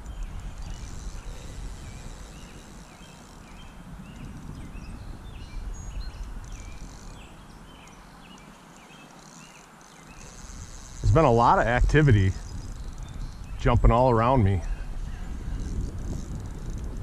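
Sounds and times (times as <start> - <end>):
wind buffeting microphone: 0.0 - 8.6, 10.0 - 17.0.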